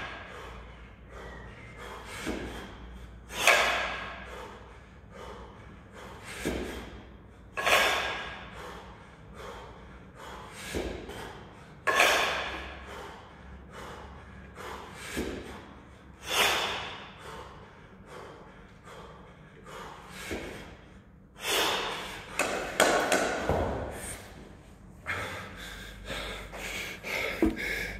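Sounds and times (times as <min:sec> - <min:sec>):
man breathing forcefully: 0:00.0 - 0:27.9.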